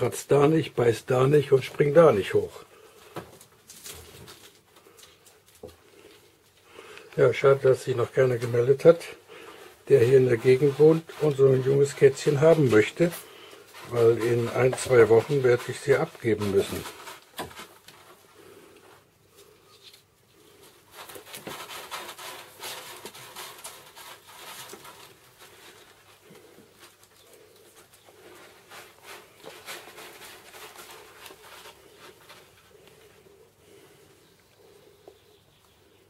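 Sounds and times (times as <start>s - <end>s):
kittens scratching and rustling: 0.0s - 36.0s.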